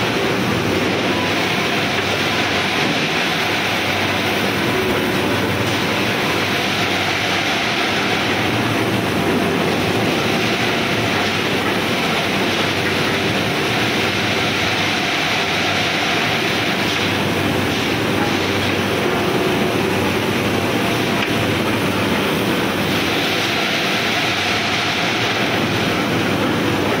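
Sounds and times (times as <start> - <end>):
rolling mill machine din: 0.0 - 27.0.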